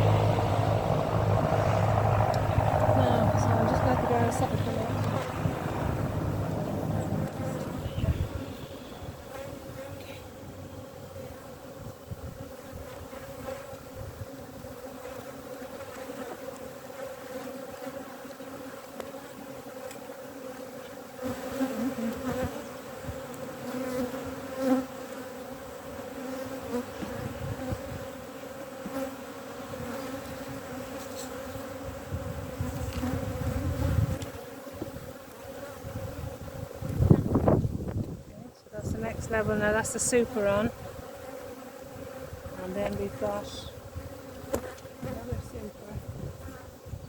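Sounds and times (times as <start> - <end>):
bees buzzing: 0.0 - 47.0.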